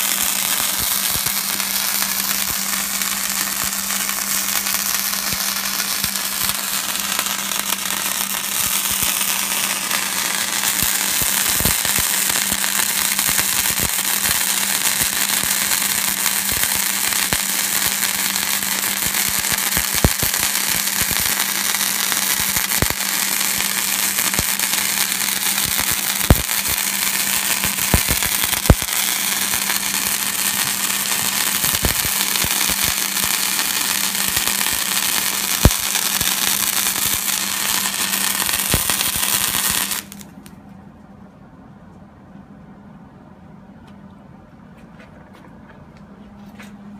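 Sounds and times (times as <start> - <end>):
welding arc crackling: 0.0 - 40.4
steady low hum: 0.0 - 46.9.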